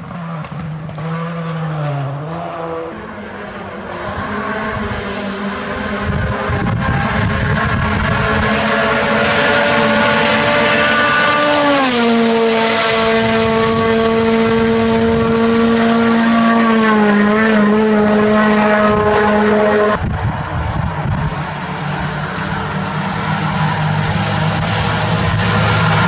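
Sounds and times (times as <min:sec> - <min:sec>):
rally car engine high revs: 0:00.0 - 0:26.0.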